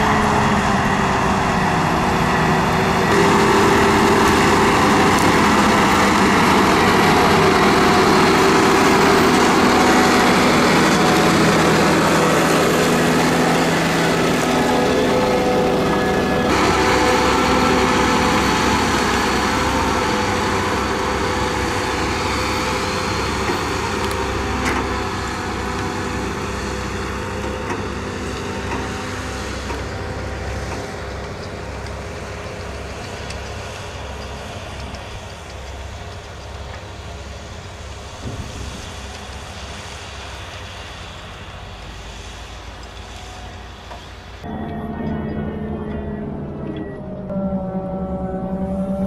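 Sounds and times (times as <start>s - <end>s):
diesel engine driving past: 0.0s - 49.0s.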